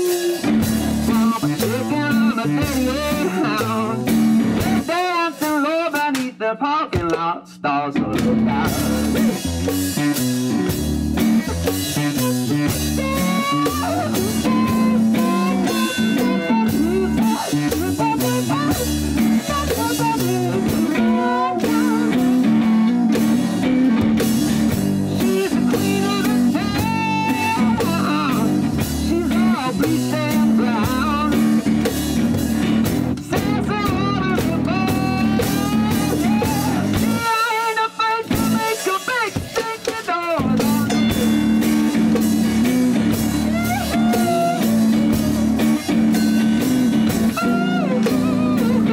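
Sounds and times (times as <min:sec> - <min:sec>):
drum and cymbal beat: 0:00.0 - 0:06.4, 0:08.1 - 0:48.9
person singing: 0:00.0 - 0:32.1, 0:33.2 - 0:48.9
electric guitar: 0:00.0 - 0:48.9.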